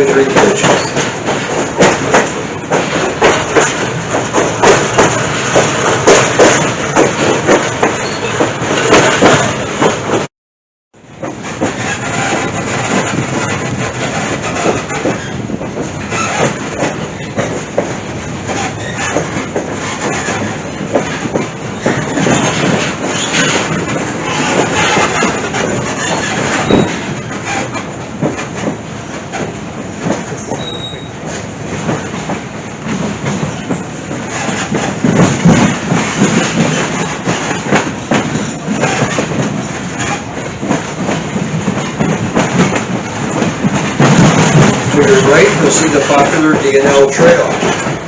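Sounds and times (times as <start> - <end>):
clickety-clack of wheels: 0.0 - 10.3, 11.0 - 48.0
knocks and rattles: 0.0 - 10.3, 11.0 - 48.0
train rumbling on rails: 0.0 - 10.3, 10.9 - 48.0.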